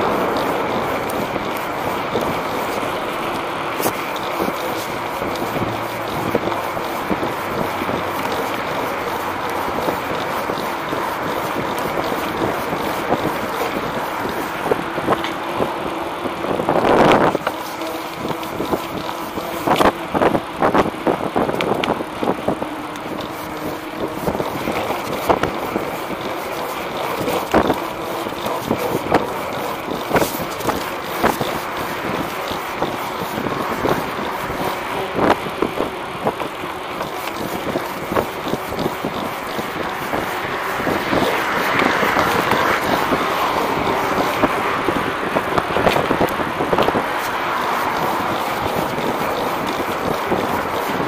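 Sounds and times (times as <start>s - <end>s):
wheel clacking over joints: 0.0s - 51.0s
wheel rolling on concrete: 0.0s - 51.0s
wind on microphone: 0.0s - 51.0s.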